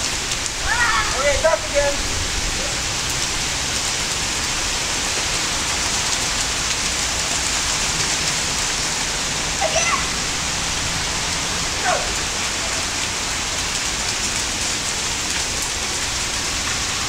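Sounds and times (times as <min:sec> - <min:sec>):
rain on paved driveway: 0:00.0 - 0:17.0.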